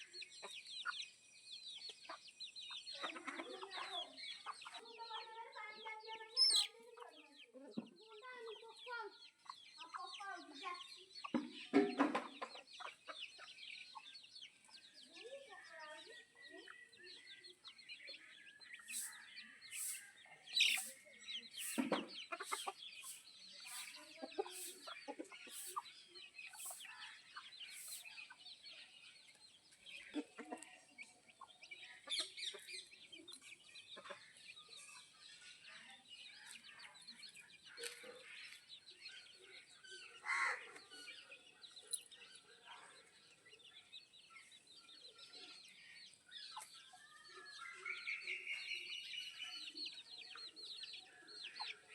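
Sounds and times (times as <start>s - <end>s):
chickens clucking and chirping: 0.0s - 51.9s.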